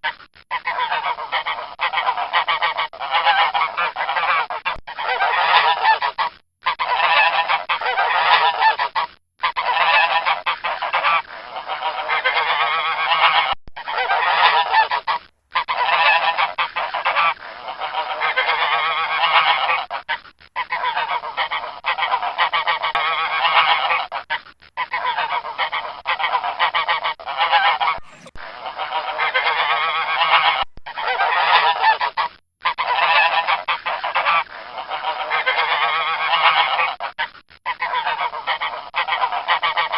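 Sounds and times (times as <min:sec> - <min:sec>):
geese honking: 0:00.5 - 0:39.9.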